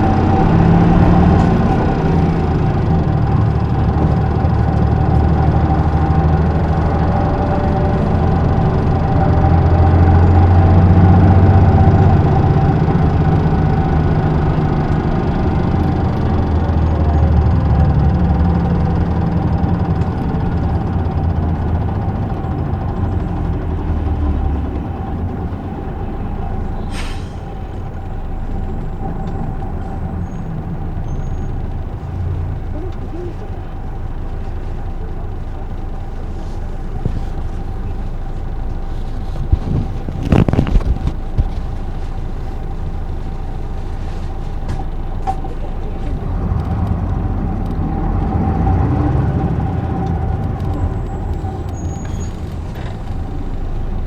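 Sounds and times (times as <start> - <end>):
diesel bus engine idling: 0.0 - 54.0.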